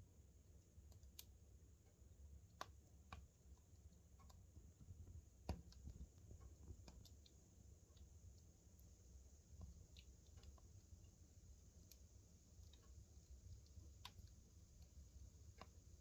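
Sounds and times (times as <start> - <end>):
burning log crackling: 2.2 - 16.0.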